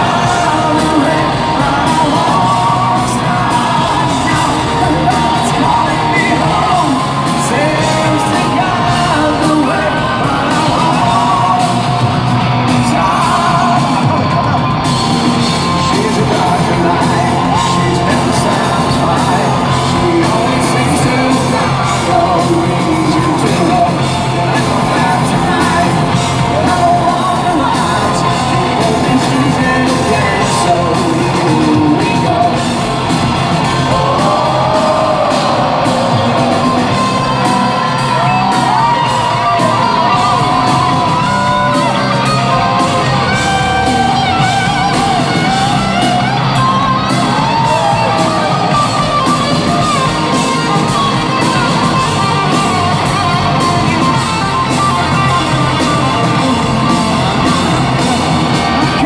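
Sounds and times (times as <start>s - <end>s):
crowd shouting: 0.0s - 59.0s
lead electric guitar bending notes: 0.0s - 59.0s
live rock band with singing: 0.0s - 59.0s.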